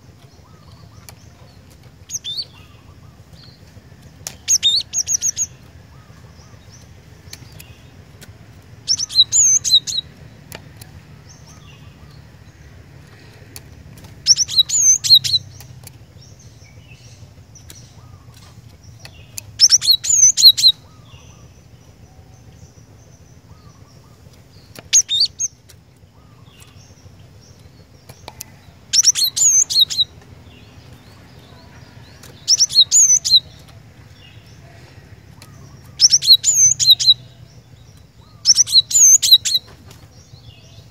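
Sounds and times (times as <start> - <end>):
bird singing high rapid notes: 0.0 - 40.9.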